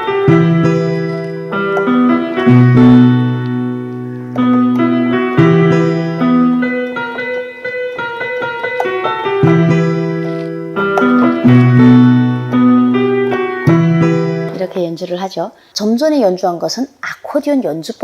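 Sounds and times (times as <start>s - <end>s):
slow piano-like melody: 0.0s - 15.0s.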